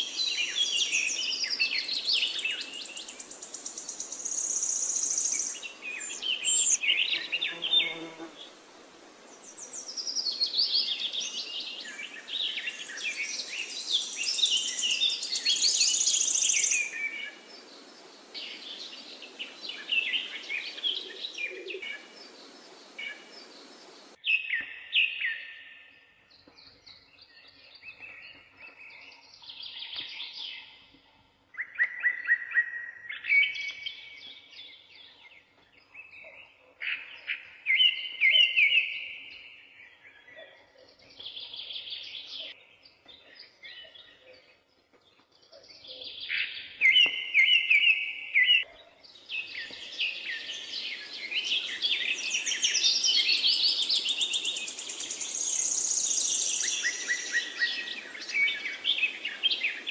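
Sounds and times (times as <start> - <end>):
birds singing: 0.0 - 8.6, 9.3 - 59.9.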